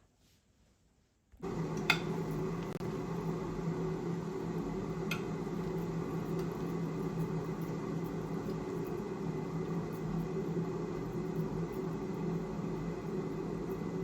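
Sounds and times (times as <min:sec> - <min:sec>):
electric motor hum: 0:01.4 - 0:14.0.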